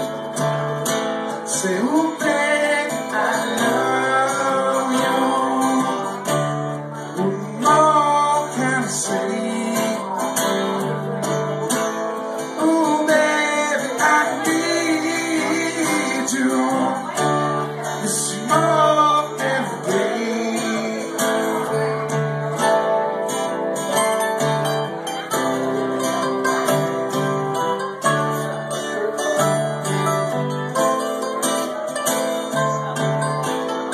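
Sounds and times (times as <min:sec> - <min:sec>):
mandolin: 0:00.0 - 0:33.9
strummed acoustic guitar: 0:00.0 - 0:33.9.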